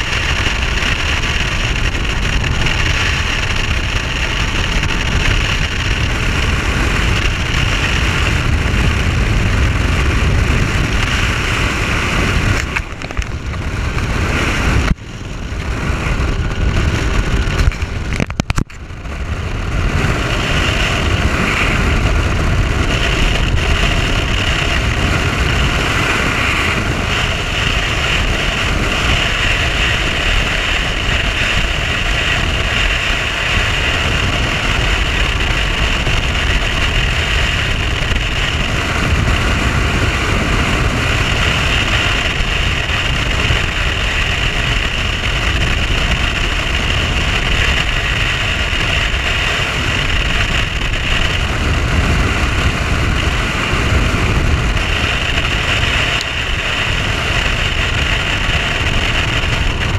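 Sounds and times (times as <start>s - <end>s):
outboard engine drone: 0.0s - 59.9s
wind rumble on microphone: 0.0s - 59.9s.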